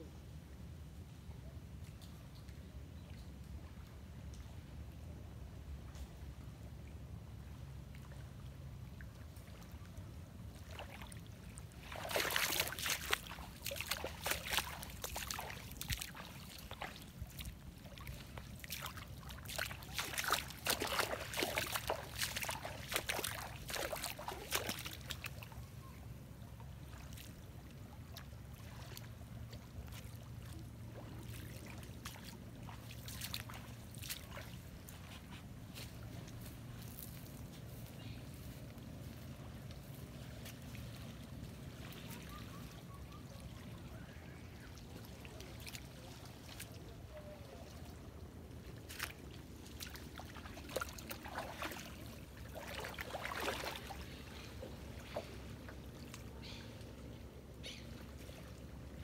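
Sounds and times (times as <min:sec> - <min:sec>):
steady low hum: 0:00.0 - 0:59.0
water splashing and sloshing: 0:05.7 - 0:59.0.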